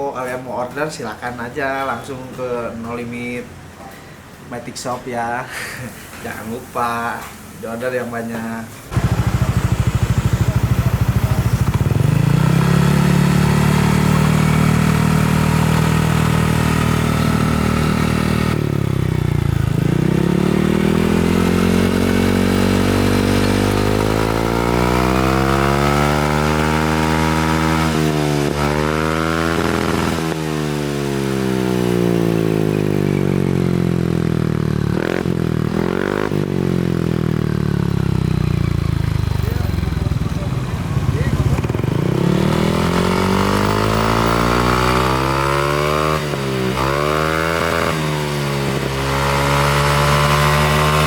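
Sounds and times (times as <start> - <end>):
scooter engine revving: 8.9 - 51.0.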